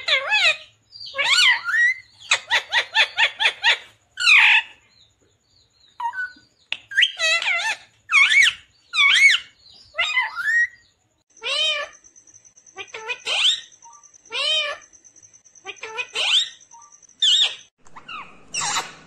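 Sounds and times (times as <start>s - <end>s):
parakeet calling: 0.0s - 5.0s, 5.8s - 19.0s.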